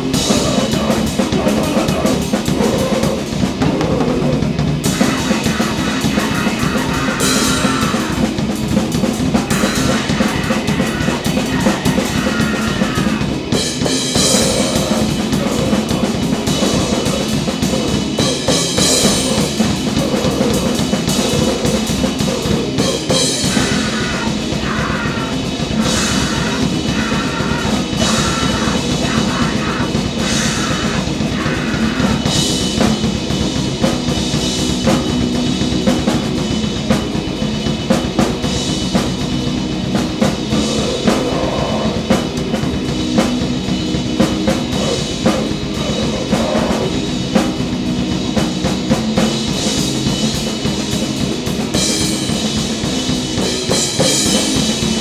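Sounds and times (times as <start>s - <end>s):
noise band playing live: 0.0s - 55.0s.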